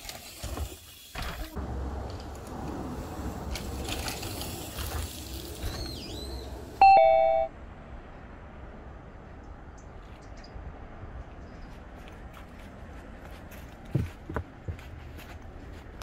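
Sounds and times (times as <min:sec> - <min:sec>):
outdoor trail noise: 0:00.0 - 0:16.0.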